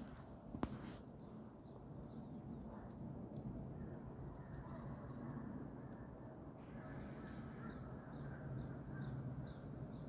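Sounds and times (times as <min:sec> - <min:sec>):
small birds chirping: 0:00.8 - 0:10.0.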